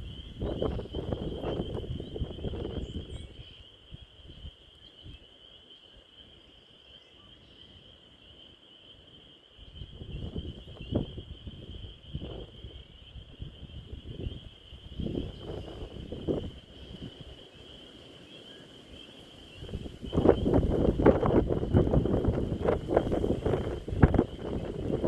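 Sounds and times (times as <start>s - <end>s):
frogs peeping: 0.0s - 25.0s.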